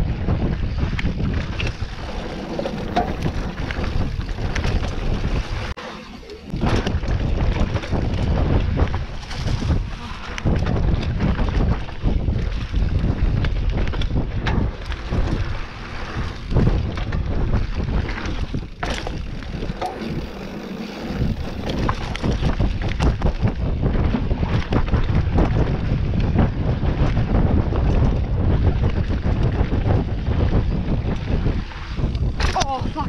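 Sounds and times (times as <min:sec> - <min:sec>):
bike rattling over rough ground: 0:00.0 - 0:33.0
wind buffeting microphone: 0:00.0 - 0:33.0.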